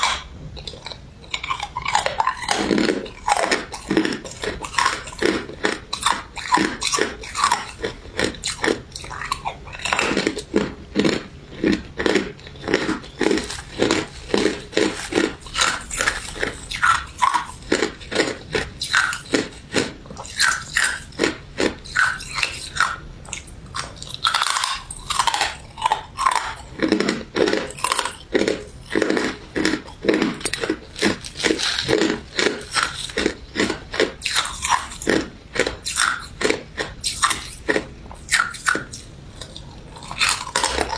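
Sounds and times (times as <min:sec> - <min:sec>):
chewing and crunching: 0:00.0 - 0:40.9.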